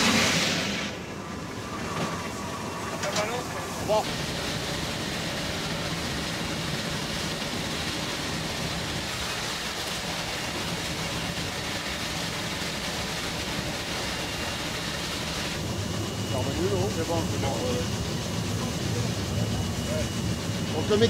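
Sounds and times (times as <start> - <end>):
steam locomotive running noise: 0.0 - 21.0.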